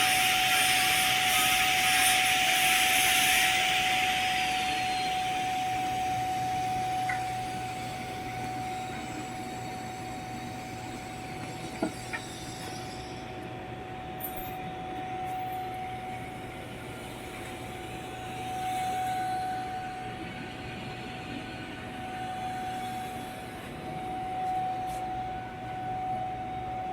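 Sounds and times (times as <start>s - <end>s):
welder high whine: 0.0s - 26.9s.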